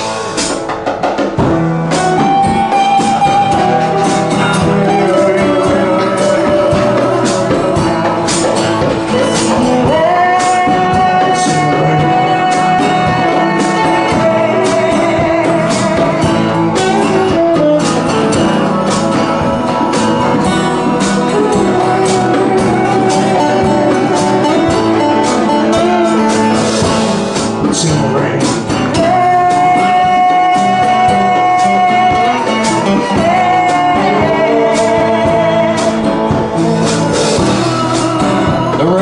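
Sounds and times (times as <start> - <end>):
guitar: 0.0 - 39.0
percussion beat: 0.0 - 39.0
wavering lead melody: 1.4 - 39.0.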